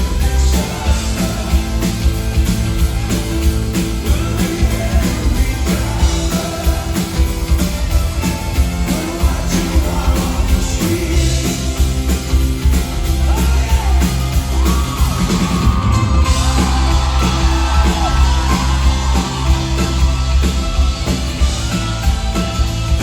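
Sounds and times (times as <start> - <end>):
heavy bass: 0.0 - 23.0
rock music with singing: 0.0 - 23.0.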